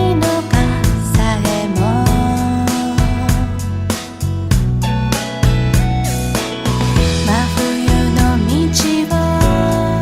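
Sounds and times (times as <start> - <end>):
upbeat music with bass line: 0.0 - 10.0.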